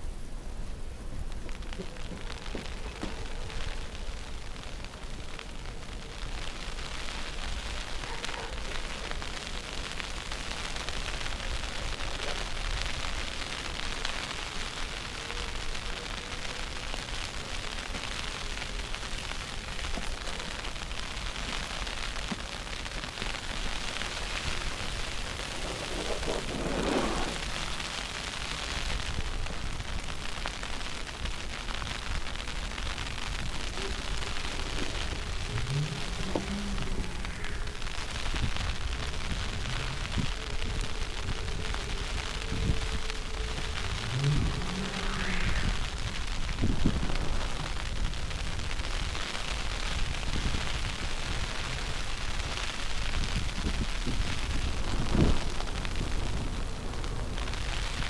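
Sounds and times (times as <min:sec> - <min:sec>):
hissing snowstorm street ambience: 0:00.0 - 0:58.0.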